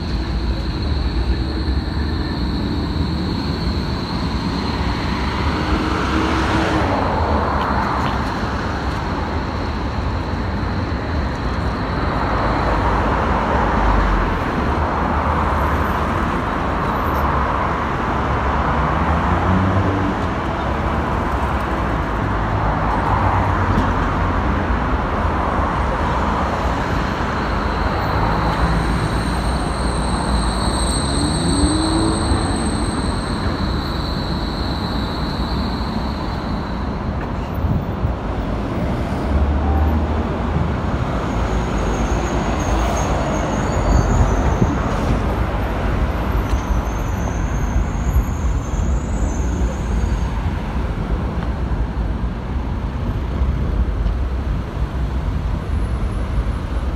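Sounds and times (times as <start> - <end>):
electric tram pulling away: 0.0 - 16.9, 19.3 - 56.9
road traffic: 0.0 - 56.9.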